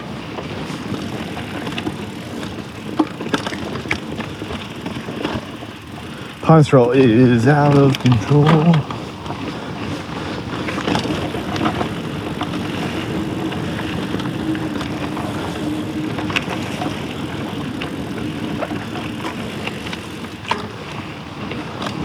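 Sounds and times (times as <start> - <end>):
bike clicks and rattles: 0.0 - 22.0
bike tyres on dirt trail: 0.0 - 22.0.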